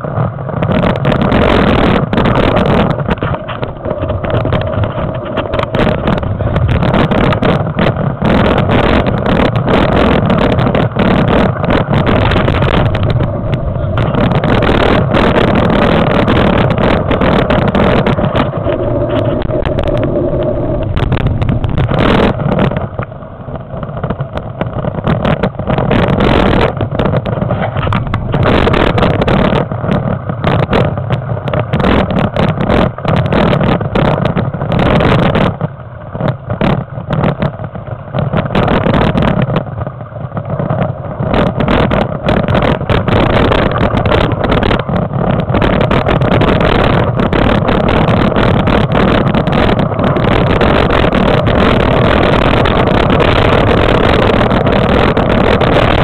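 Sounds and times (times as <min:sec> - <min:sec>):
mountain bike rattling on dirt: 0:00.0 - 0:56.0
wind buffeting microphone: 0:00.0 - 0:56.0.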